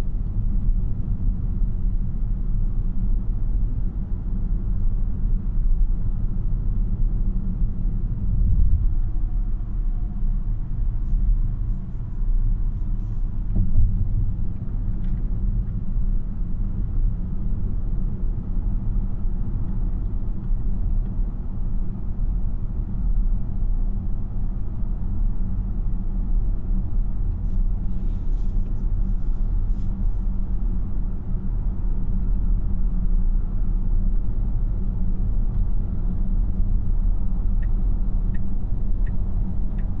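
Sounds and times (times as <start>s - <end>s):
car tyre and road noise: 6.8s - 40.0s.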